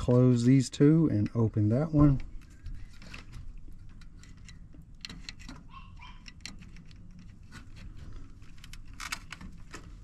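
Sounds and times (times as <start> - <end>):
clicks and rustles of handling parts: 0.0 - 10.0.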